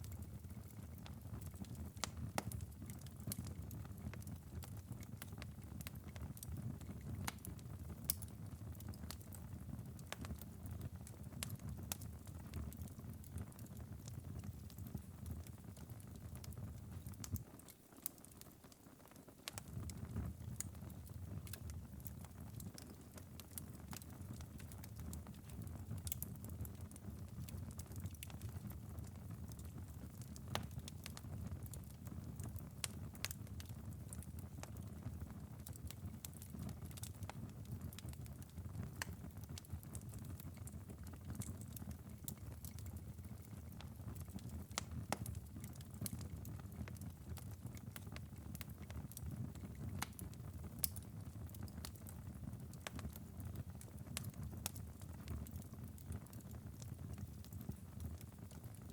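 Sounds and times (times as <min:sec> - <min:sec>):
fireplace embers popping: 0:00.0 - 0:58.9.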